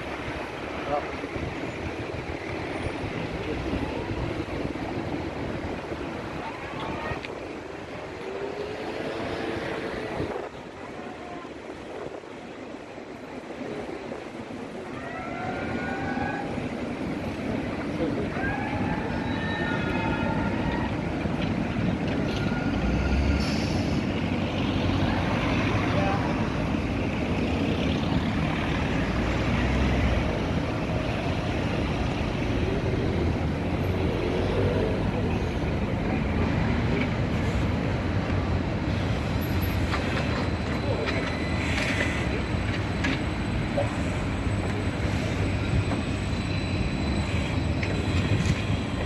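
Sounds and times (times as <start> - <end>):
tram wheels rumbling: 0.0 - 49.0.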